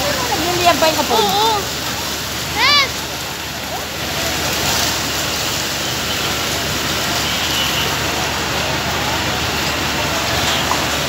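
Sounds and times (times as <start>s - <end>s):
fire truck engine rushing: 0.0s - 11.0s.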